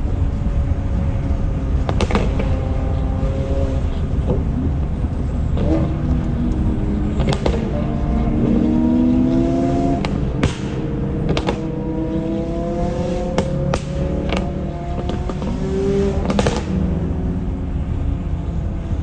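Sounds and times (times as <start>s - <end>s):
car engine accelerating: 0.0s - 19.0s
exhaust pops and crackles: 0.0s - 19.0s.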